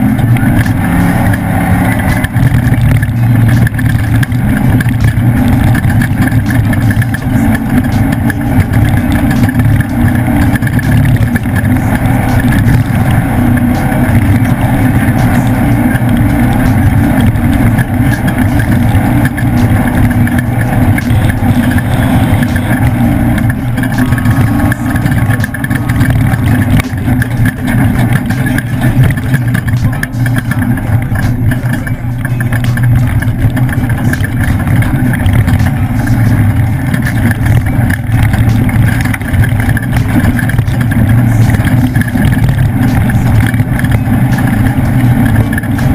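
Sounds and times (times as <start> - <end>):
race truck engine: 0.0 - 45.9.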